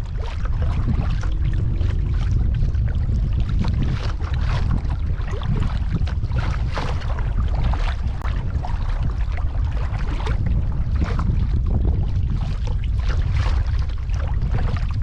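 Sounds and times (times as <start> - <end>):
kayak paddle splashing water: 0.0 - 15.0
wind rumble on microphone: 0.0 - 15.0.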